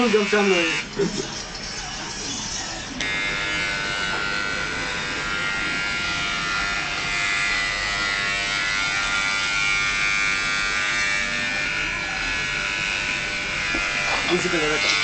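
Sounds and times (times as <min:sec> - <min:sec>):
electric hair clippers buzzing: 0:00.0 - 0:00.9, 0:02.9 - 0:15.0.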